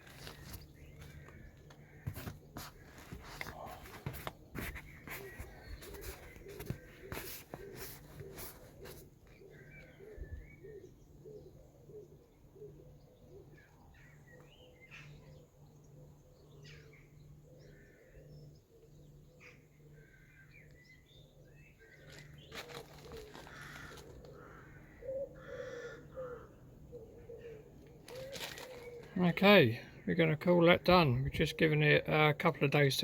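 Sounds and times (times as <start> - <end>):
bird cooing calls: 2.9 - 20.4, 21.0 - 30.0.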